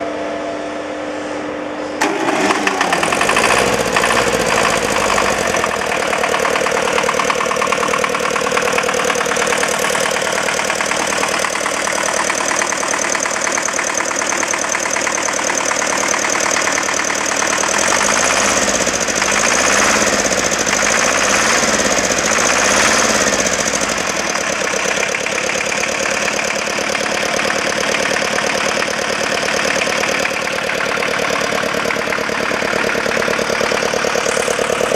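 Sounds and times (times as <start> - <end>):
engine running and revving: 2.0 - 34.9
starter motor whine: 2.0 - 34.9.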